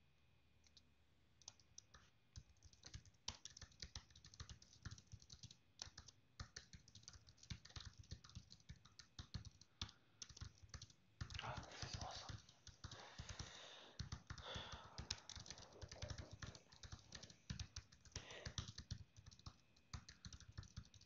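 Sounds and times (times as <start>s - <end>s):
keyboard typing clicks: 1.4s - 21.0s.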